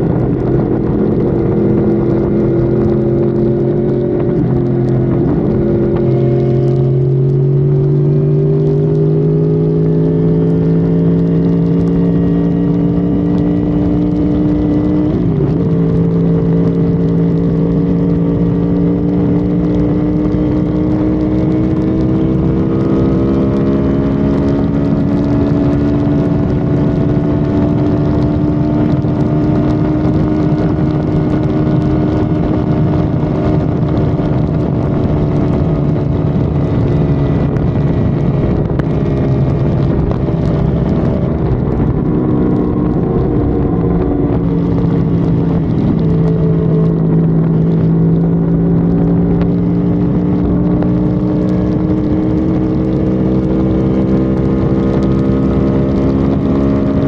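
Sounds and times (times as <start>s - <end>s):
car engine at highway speed: 0.0s - 57.0s
road and wind noise: 0.0s - 57.0s.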